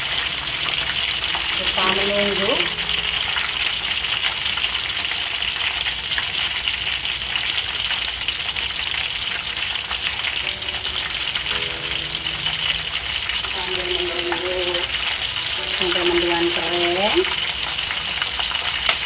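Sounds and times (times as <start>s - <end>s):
battered slices deep-frying in oil: 0.0s - 19.0s.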